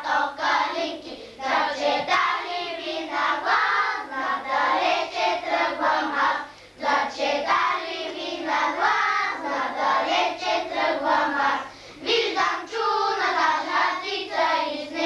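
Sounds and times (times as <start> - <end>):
children singing in unison: 0.0 - 15.0.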